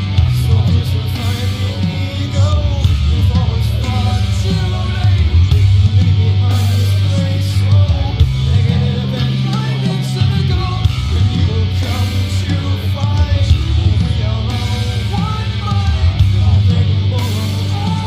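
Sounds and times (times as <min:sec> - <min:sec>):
drums steady beat: 0:00.0 - 0:18.0
heavy bass line: 0:00.0 - 0:18.0
rock music with guitar: 0:00.0 - 0:18.0.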